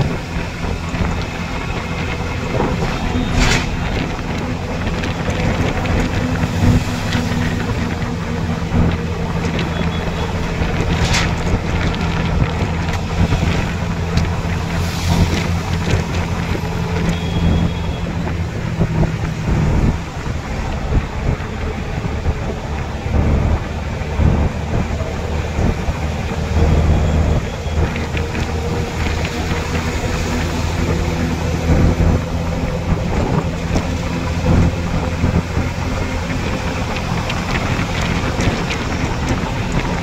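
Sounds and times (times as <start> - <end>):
low drone: 0.0 - 40.0
road and wind noise: 0.0 - 40.0
wind buffeting microphone: 0.0 - 40.0.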